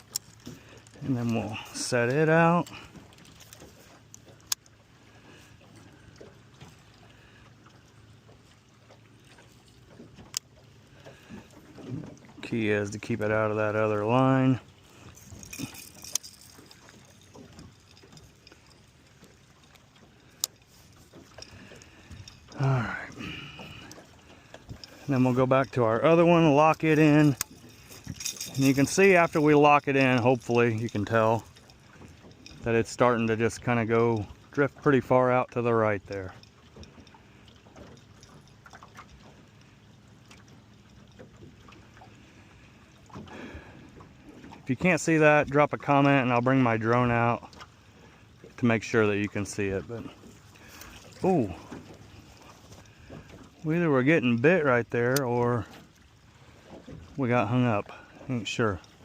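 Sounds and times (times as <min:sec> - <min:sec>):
boat engine low hum: 0:00.0 - 0:59.0
water noise: 0:00.0 - 0:59.0.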